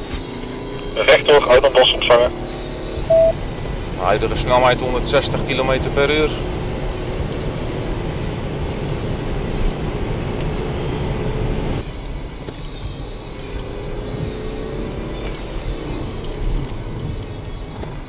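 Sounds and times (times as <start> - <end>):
car engine at high speed: 0.0 - 18.0.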